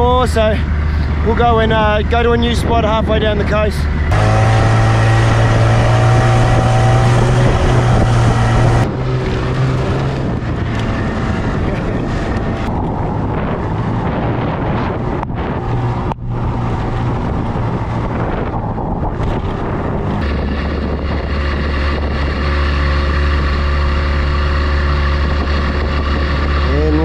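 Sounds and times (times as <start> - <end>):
boat motor running: 0.0 - 27.0
wind buffeting microphone: 0.0 - 27.0.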